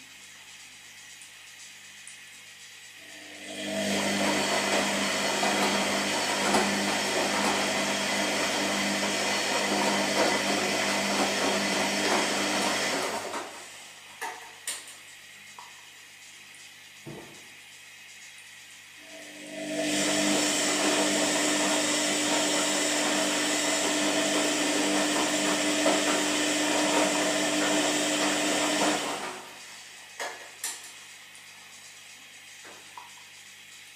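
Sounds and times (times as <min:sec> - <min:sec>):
washing machine whirring: 0:00.0 - 0:33.9
motor hum: 0:01.8 - 0:30.4.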